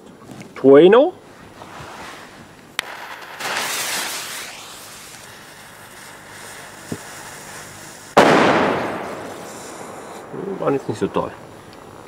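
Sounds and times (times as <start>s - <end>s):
firecracker fuse hissing: 1.2s - 12.0s.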